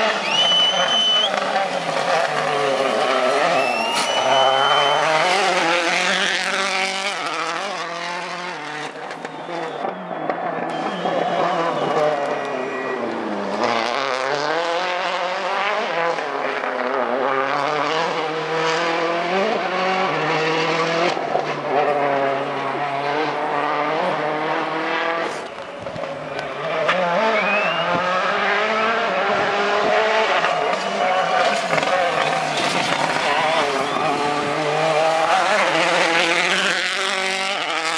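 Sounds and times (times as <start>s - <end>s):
rally car engine revving: 0.0s - 37.9s.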